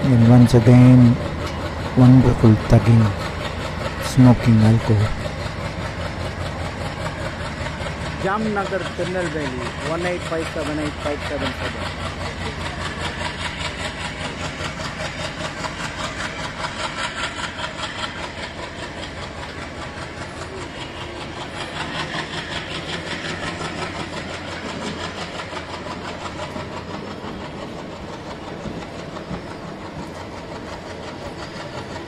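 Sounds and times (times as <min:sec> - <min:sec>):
diesel locomotive engine chugging: 0:00.0 - 0:32.0
train wheels clattering on rails: 0:00.0 - 0:32.0.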